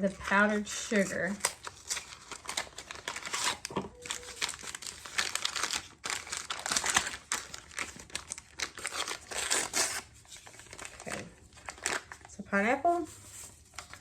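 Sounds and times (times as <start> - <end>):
packaging crinkling and rustling: 0.1 - 12.4, 13.0 - 14.0.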